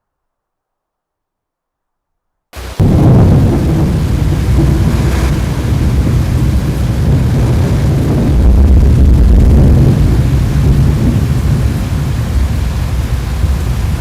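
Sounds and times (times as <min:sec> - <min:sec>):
heavy rain: 0:02.6 - 0:14.0
thunder rumbling: 0:02.6 - 0:14.0.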